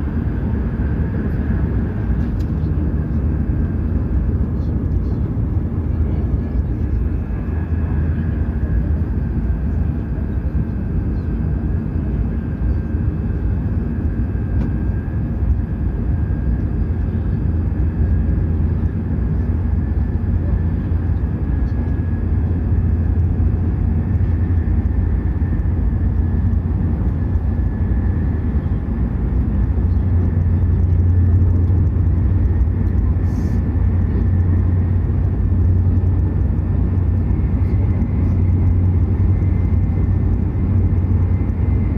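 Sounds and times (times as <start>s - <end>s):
train interior deep rumble: 0.0s - 41.9s.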